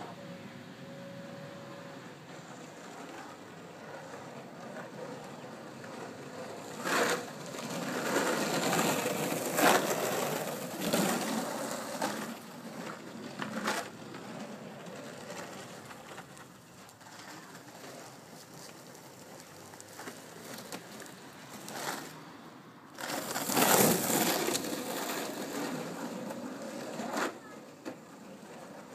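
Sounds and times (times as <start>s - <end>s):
skateboard rolling over asphalt: 0.0s - 28.9s.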